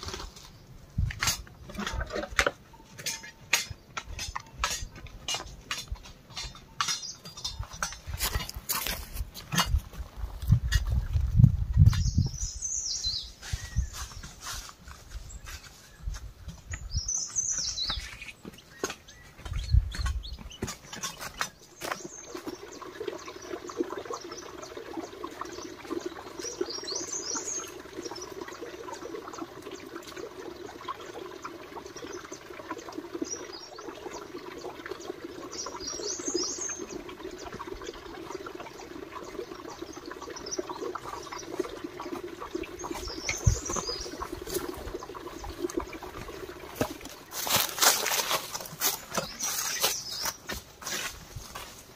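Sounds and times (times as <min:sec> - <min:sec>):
birds twittering: 0:06.3 - 0:09.0, 0:11.8 - 0:51.1.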